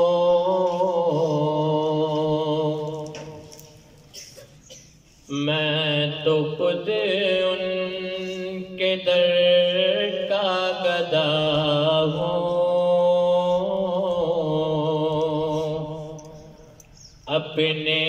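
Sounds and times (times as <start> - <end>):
man singing unaccompanied: 0.0 - 3.5, 5.3 - 16.6, 17.2 - 18.0.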